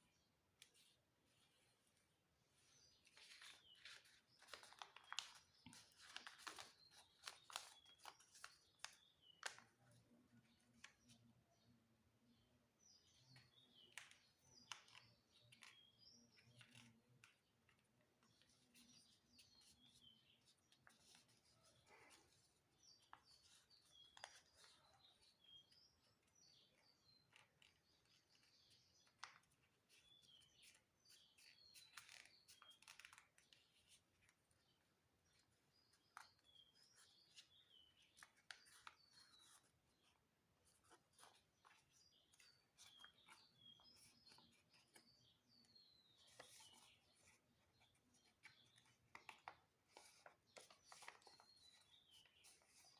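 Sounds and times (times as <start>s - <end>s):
small birds chirping: 0.0s - 52.9s
paper rustling being folded: 2.5s - 9.8s, 16.4s - 52.9s.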